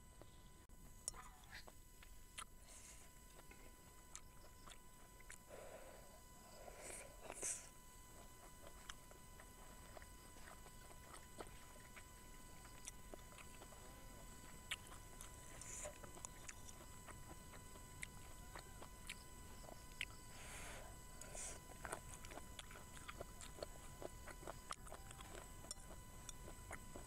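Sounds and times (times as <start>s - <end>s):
faint chewing: 0.0s - 27.0s.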